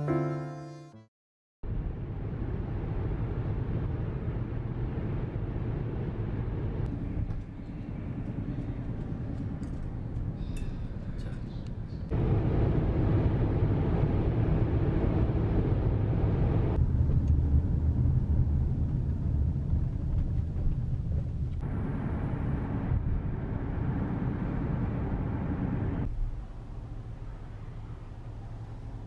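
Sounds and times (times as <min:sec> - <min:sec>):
car road and engine rumble: 0:01.6 - 0:29.0.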